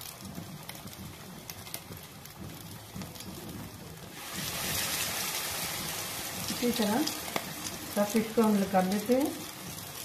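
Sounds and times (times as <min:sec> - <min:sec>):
fish deep-frying in oil: 0:00.0 - 0:10.0
oil crackles and pops: 0:00.0 - 0:10.0.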